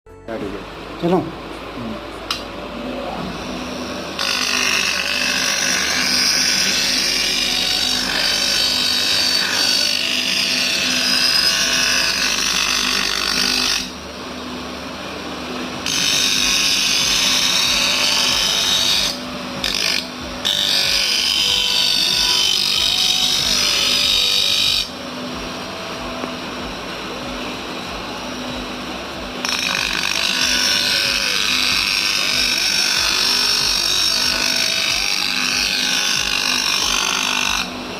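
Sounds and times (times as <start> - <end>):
lathe motor hum: 0.6 - 37.9.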